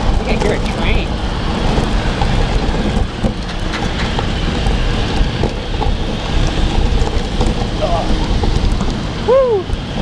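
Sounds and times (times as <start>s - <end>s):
low rumble: 0.0s - 10.0s
wind noise on microphone: 0.0s - 10.0s.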